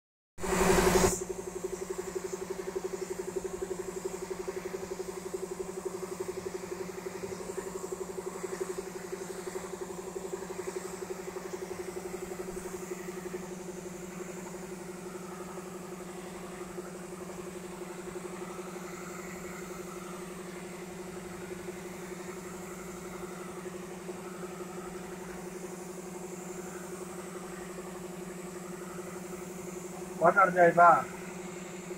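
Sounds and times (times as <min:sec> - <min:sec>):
air compressor humming: 0:00.4 - 0:31.9.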